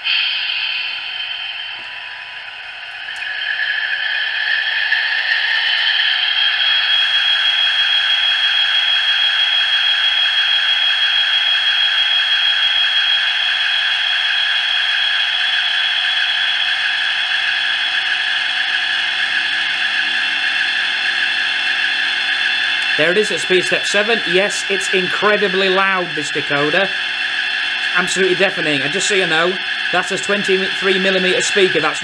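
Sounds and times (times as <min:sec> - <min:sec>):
model locomotive diesel engine sound: 0:00.0 - 0:32.0.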